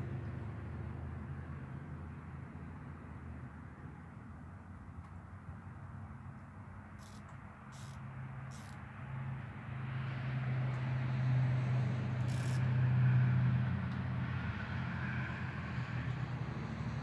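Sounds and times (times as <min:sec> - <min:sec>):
passing vehicle engine hum: 0:00.0 - 0:04.3, 0:06.7 - 0:17.0.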